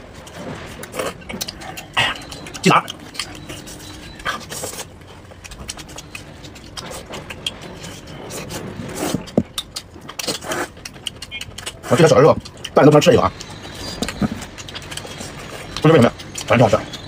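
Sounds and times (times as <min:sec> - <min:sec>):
person chewing meat: 0:00.0 - 0:17.0.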